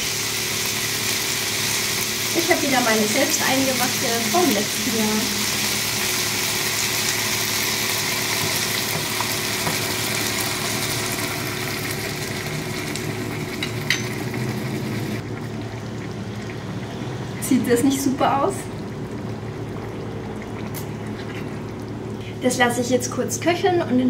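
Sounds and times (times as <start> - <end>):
food frying in oil: 0.0 - 24.0.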